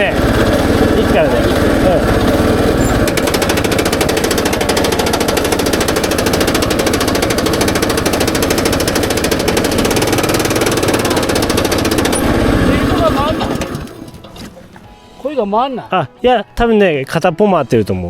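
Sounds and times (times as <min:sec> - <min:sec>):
machine engine clattering: 0:00.0 - 0:14.9.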